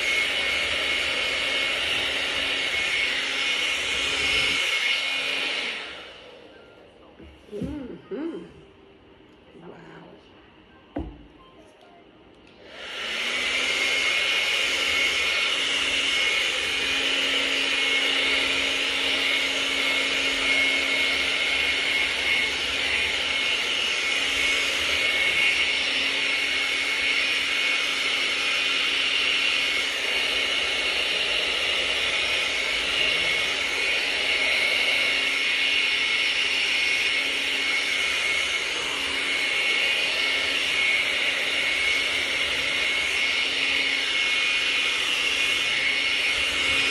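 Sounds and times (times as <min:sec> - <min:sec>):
hair dryer running: 0:00.0 - 0:06.5, 0:07.5 - 0:08.5, 0:12.4 - 0:46.9.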